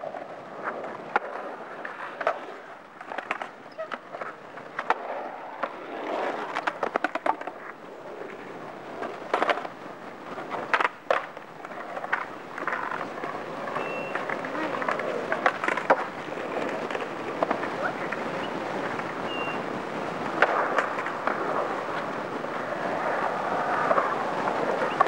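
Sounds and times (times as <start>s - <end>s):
skateboard wheels rolling on pavement: 0.0s - 25.0s
wheels clacking over cracks: 0.0s - 25.0s.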